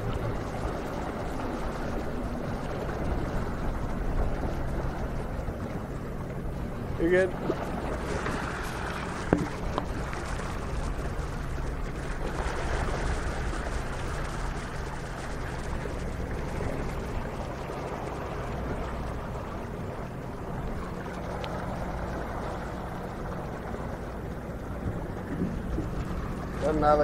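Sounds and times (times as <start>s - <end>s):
low motor hum: 0.0s - 27.0s
rushing water: 0.0s - 27.0s.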